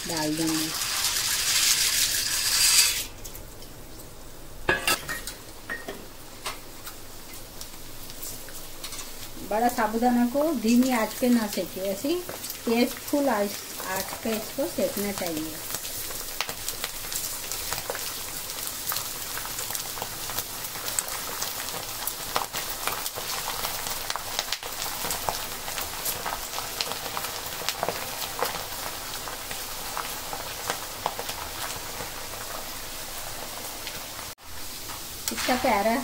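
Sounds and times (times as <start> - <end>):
food deep-frying in hot oil: 0.0 - 36.0.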